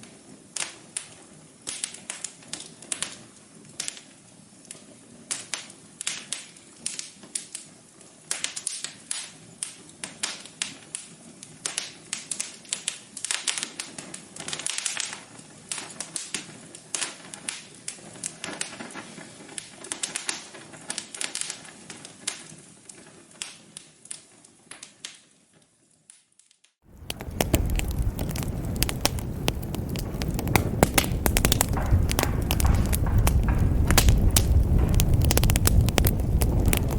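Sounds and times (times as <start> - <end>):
wood fire crackling: 0.0 - 25.4, 26.8 - 36.9.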